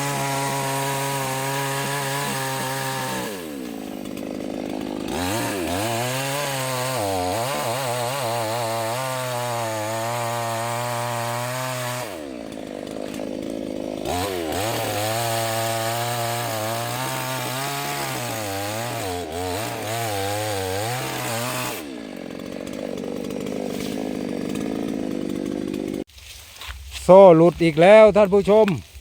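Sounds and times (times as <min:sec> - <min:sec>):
chainsaw cutting wood: 0:00.0 - 0:26.8.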